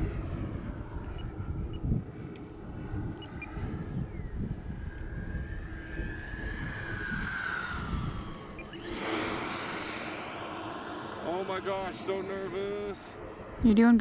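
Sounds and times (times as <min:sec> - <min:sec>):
electric ducted fan whine: 0:00.0 - 0:14.0
wind rumbling on microphone: 0:00.0 - 0:14.0.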